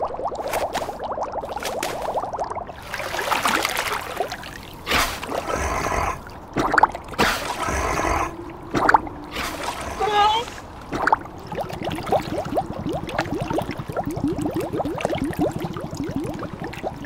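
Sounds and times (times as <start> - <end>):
cartoon water gurgling and sloshing: 0.0 - 17.0.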